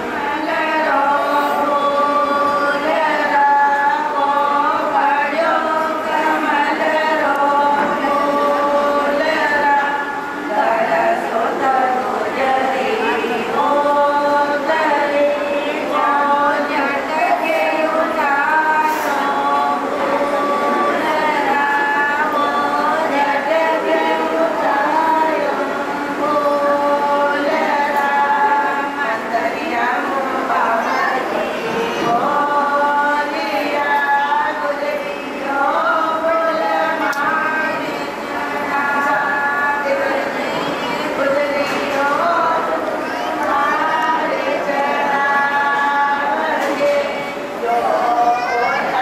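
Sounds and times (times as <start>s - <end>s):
voices singing in unison: 0.0s - 49.0s.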